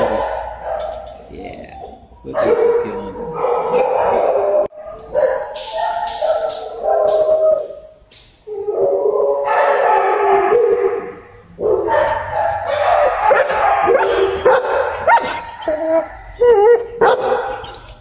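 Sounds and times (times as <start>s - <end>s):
dogs barking: 0.0s - 8.0s, 8.6s - 18.0s
dogs howling: 0.0s - 18.0s.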